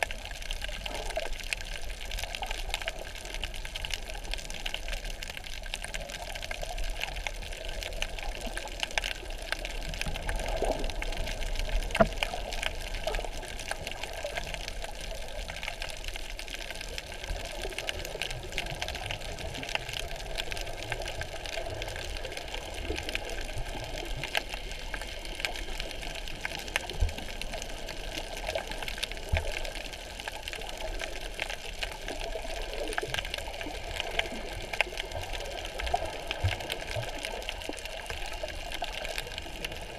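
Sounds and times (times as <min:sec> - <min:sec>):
faint underwater clicks and crackles: 0:00.0 - 0:39.9
muffled underwater water wash: 0:00.0 - 0:39.9.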